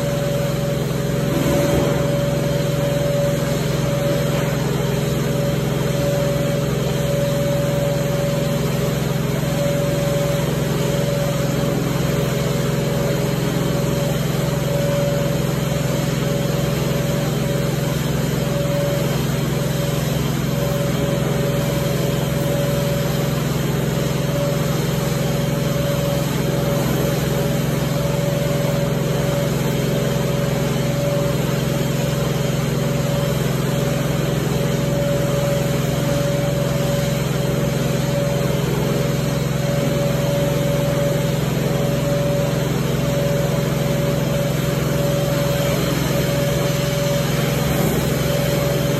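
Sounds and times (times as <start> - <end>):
carpet cleaning machine drone: 0.0 - 48.9
steady machine whine: 0.0 - 48.9.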